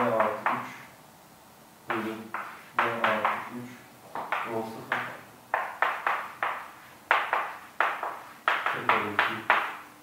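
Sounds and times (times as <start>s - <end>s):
chalk tapping and scraping on blackboard: 0.0s - 0.9s, 1.9s - 9.9s.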